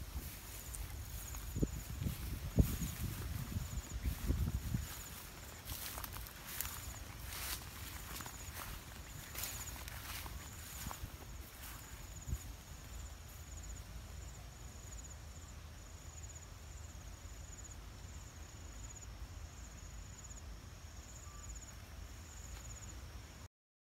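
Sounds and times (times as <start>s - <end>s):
insect chirping in high trills: 0.0s - 23.4s.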